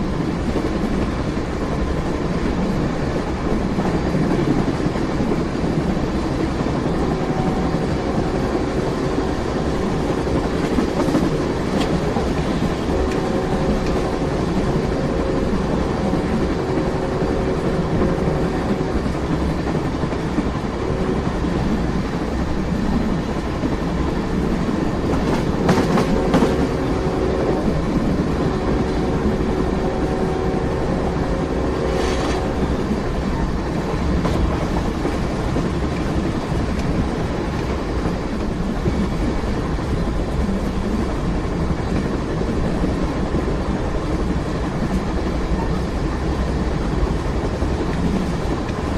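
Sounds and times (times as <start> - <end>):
train rumbling on rails: 0.0 - 48.9.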